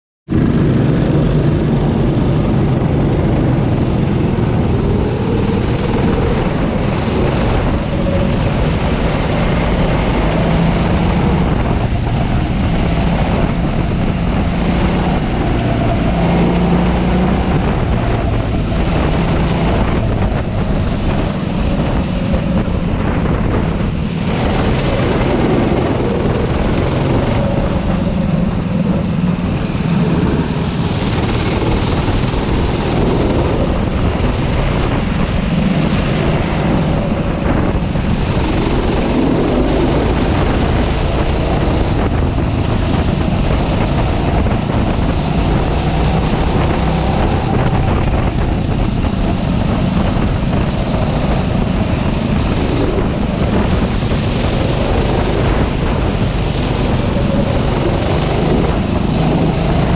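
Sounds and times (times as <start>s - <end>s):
kart engine revving: 0.3s - 59.9s
other kart engines: 0.3s - 59.9s.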